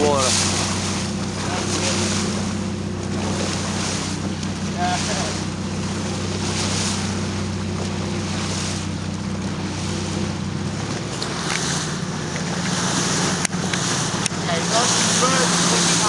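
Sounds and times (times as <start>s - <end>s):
boat engine running: 0.0s - 16.0s
sea water rushing: 0.0s - 16.0s.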